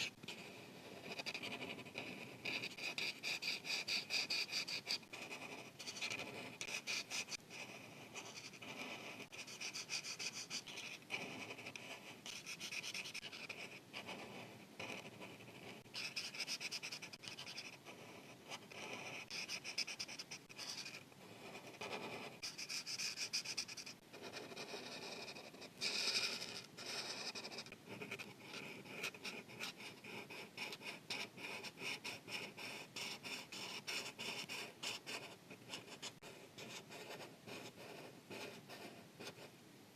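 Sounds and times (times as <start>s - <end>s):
marker rubbing on paper: 0.0s - 39.5s.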